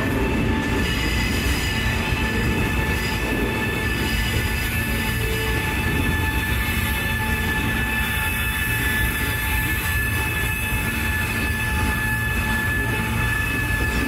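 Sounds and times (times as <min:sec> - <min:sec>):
high whine: 0:00.0 - 0:14.0
subway train rumble: 0:00.0 - 0:14.0.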